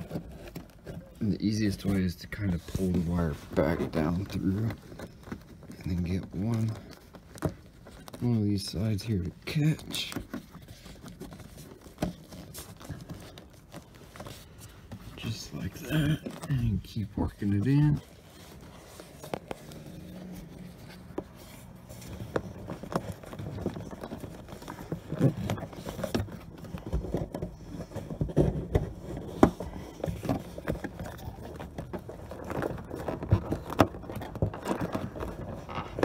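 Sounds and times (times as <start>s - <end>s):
rubber grommet scraping and rubbing: 0.0s - 36.0s.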